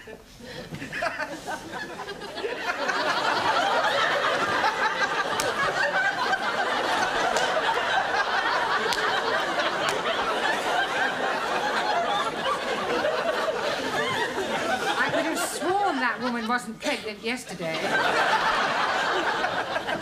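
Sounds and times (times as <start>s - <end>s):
studio audience laughing: 0.0s - 16.8s, 17.6s - 20.0s.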